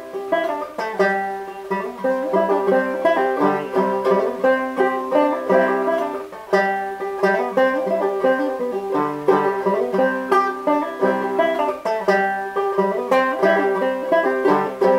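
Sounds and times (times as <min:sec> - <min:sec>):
solo banjo playing: 0:00.0 - 0:14.9.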